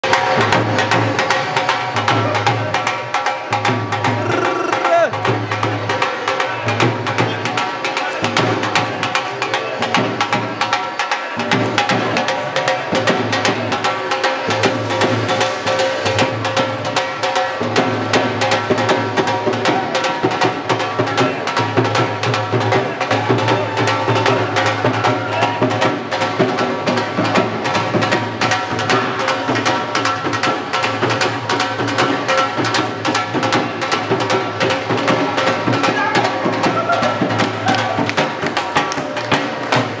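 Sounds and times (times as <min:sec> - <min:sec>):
bhangra music: 0:00.0 - 0:40.0
dhol drum beating fast: 0:00.0 - 0:40.0.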